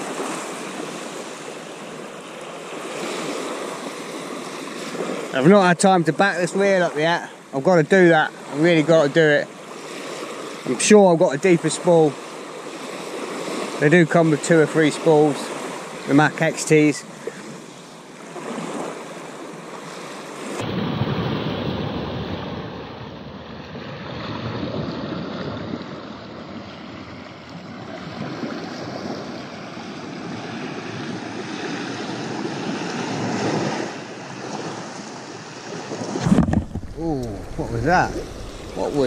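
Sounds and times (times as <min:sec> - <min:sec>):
small waves washing on shore: 0:00.0 - 0:39.0.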